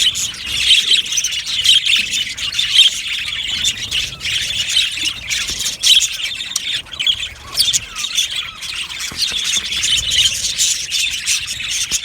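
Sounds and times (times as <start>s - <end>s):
budgerigars chirping and squawking: 0.0s - 12.0s.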